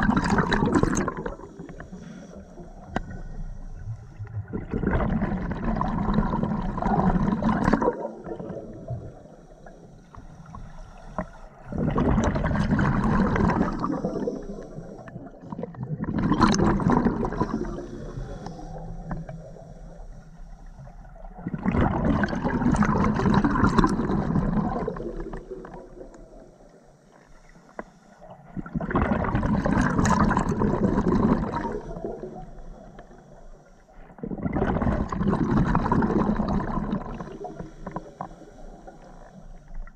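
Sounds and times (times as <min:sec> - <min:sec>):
exhaled bubbles gurgling underwater: 0:00.0 - 0:39.9.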